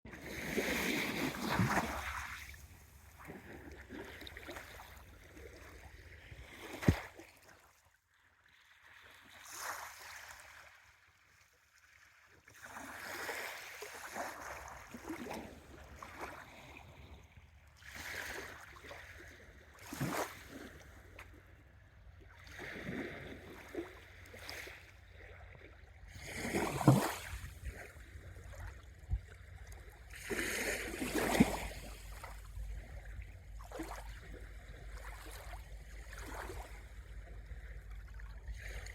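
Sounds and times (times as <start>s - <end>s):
small waves washing on shore: 0.1s - 7.9s, 8.5s - 21.6s, 22.2s - 38.9s.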